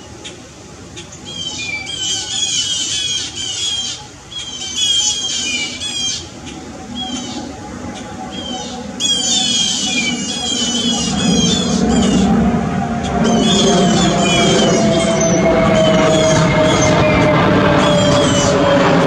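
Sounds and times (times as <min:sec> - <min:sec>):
songbirds chattering alarm calls: 0:01.0 - 0:19.0.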